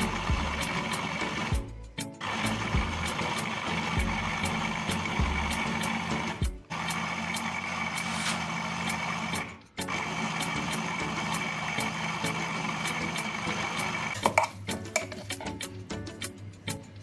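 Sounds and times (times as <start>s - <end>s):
food chopper motor whining: 0.0s - 14.6s.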